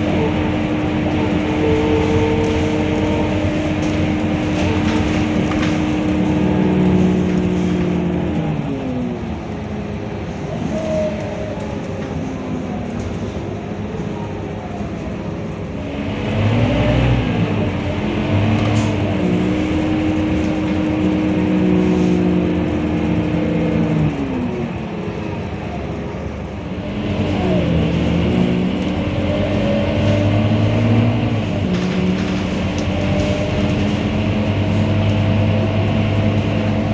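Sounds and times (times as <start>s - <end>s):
bus diesel engine accelerating: 0.0s - 36.9s.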